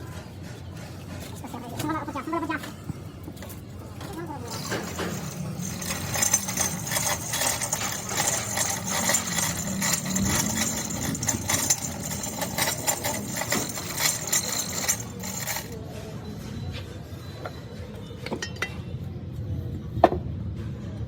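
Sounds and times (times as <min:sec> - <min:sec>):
metal tools knocking on engine parts: 0:00.2 - 0:15.9, 0:17.4 - 0:18.9.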